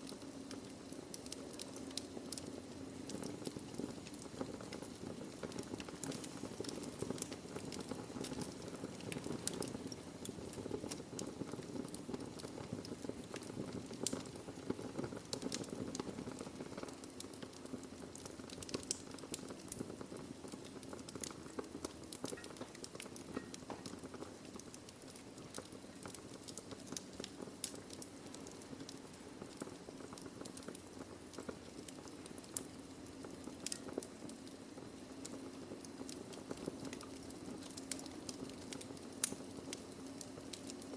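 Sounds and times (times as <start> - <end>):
burning logs crackling and popping: 0.0 - 40.9
fire flames rushing: 0.0 - 40.9.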